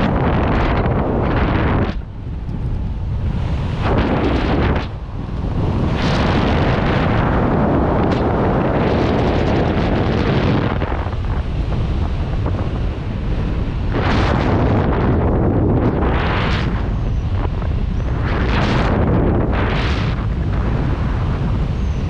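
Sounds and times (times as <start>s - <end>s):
wind roar on microphone: 0.0s - 22.0s.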